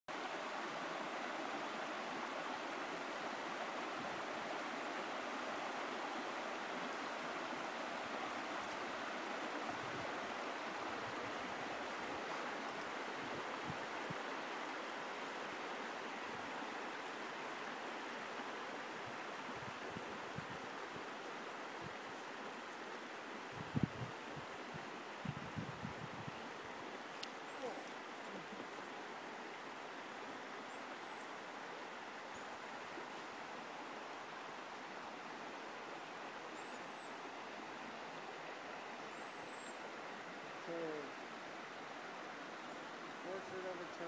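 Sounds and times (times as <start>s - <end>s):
river water rushing: 0.1s - 44.0s.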